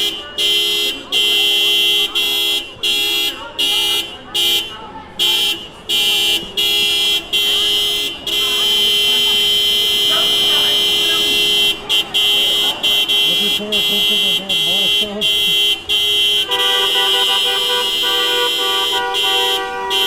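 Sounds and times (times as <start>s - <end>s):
car horn honking: 0.0s - 20.0s.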